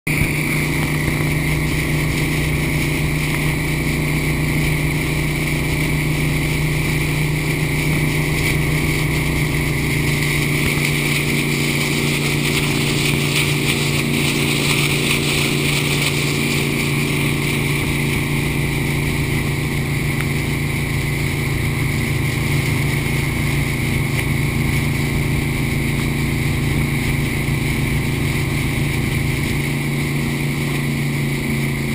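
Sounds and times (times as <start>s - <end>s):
boat engine droning: 0.1s - 31.9s
wake and spray rushing: 0.1s - 31.9s.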